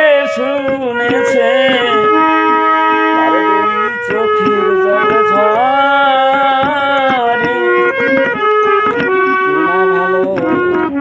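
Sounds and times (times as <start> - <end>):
harmonium folk melody: 0.0 - 11.0.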